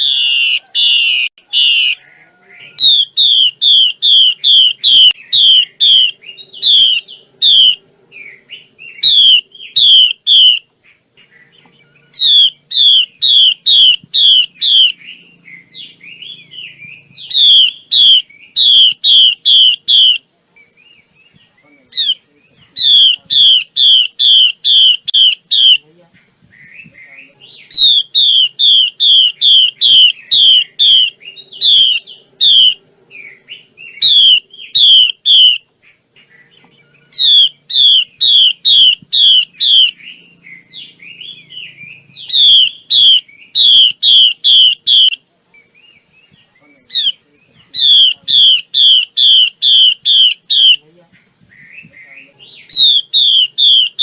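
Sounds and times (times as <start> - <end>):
bird calling downward-slurred notes: 0.0 - 54.0.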